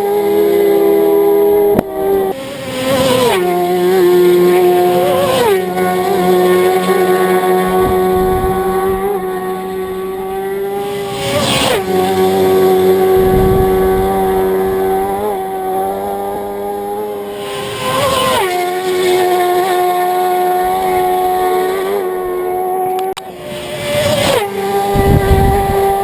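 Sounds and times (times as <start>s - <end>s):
high-pitched engine note: 0.0s - 26.0s
racing motorcycles passing at speed: 0.0s - 26.0s.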